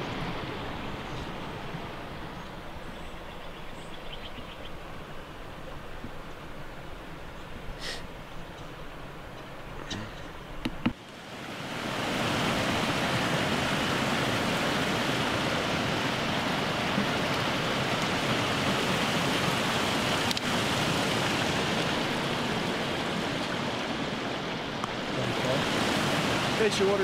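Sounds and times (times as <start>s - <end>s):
rushing creek water: 0.0s - 27.0s.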